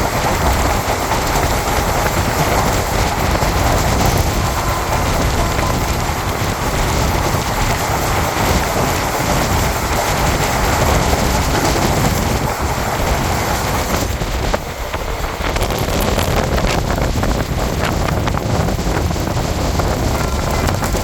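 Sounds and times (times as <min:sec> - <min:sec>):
air buffeting microphone: 0:00.0 - 0:21.0
express train passing: 0:00.0 - 0:21.0.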